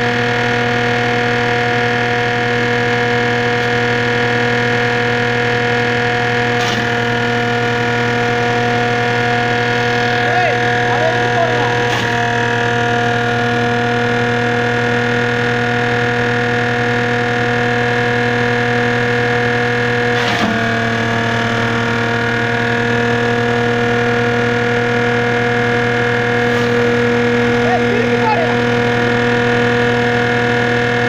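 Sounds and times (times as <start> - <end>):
tractor engine running a shredder: 0.0 - 31.0.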